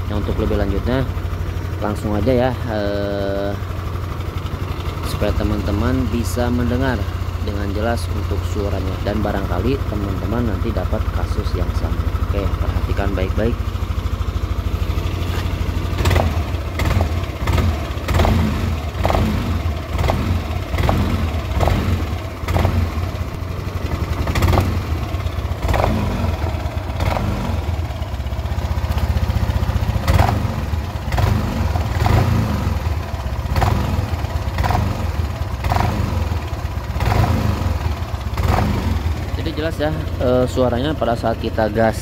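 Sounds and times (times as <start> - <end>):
scooter engine running: 0.0 - 42.0.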